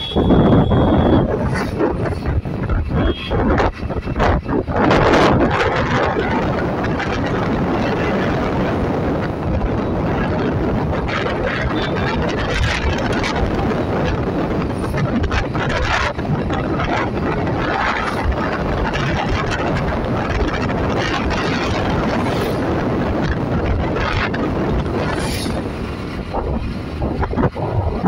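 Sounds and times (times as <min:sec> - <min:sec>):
vehicle road noise: 0:00.0 - 0:28.0
wind buffeting microphone: 0:00.0 - 0:28.0.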